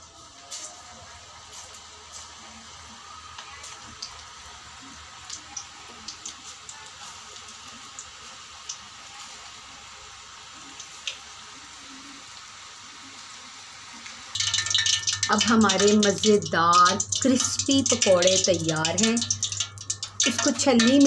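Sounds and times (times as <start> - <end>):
batter sizzling in hot oil: 0.0 - 21.0.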